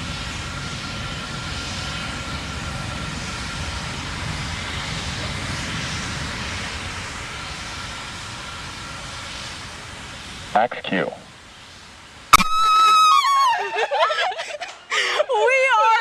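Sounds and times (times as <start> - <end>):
rocket engines rumbling: 0.0 - 16.0.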